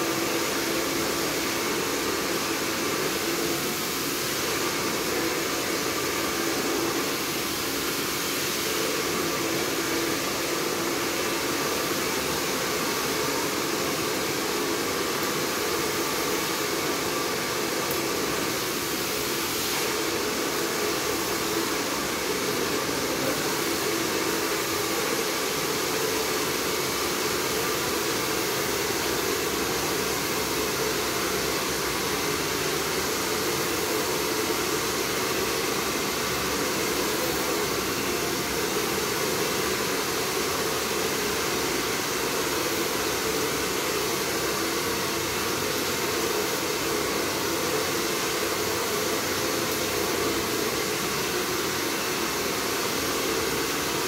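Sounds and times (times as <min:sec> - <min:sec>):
blower rushing air: 0:00.0 - 0:54.0.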